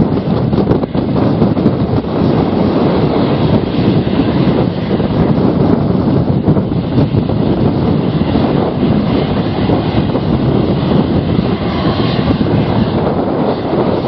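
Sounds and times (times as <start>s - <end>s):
airliner engines passing: 0.0s - 14.0s
wind buffeting microphone: 0.0s - 14.0s.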